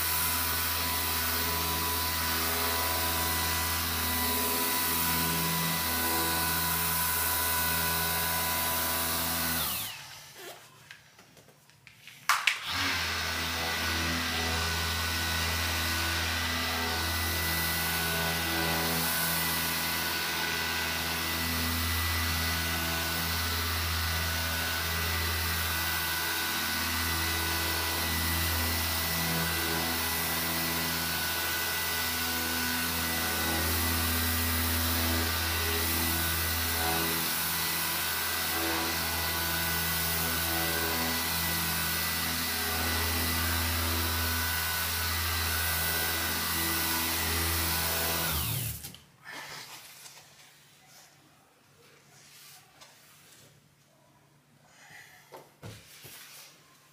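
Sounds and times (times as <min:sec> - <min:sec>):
electric orbital sander running: 0:00.0 - 0:10.4, 0:12.6 - 0:48.9.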